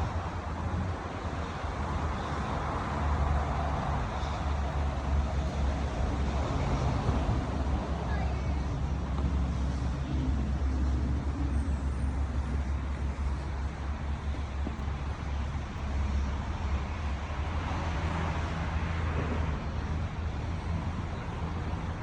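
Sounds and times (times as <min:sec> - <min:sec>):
traffic noise: 0:00.0 - 0:22.0.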